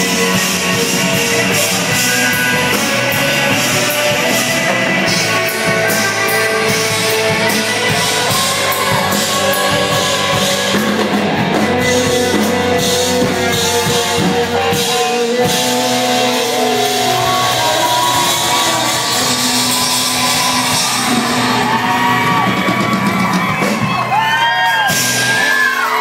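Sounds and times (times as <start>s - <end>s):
drum kit with cymbals: 0.0s - 26.0s
guitar: 0.0s - 26.0s
rock band playing live: 0.0s - 26.0s.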